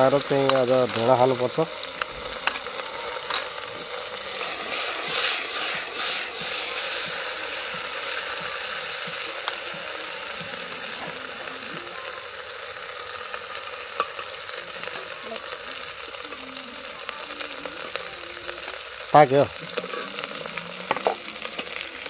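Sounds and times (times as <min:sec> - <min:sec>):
potatoes sizzling in a pot: 0:00.0 - 0:22.0.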